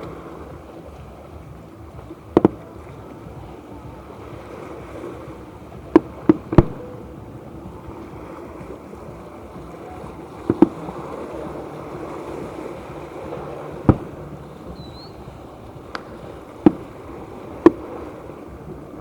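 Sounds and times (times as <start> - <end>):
steady noisy background: 0.0 - 19.0.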